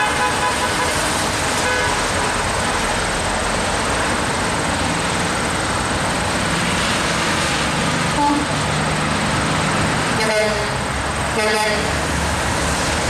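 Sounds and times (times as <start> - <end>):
highway traffic rushing: 0.0 - 13.0.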